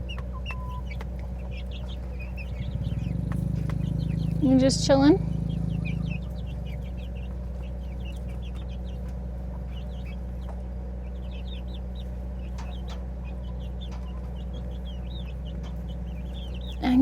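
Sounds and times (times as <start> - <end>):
baby chicks peeping: 0.0 - 17.0
steady low hum: 0.0 - 17.0.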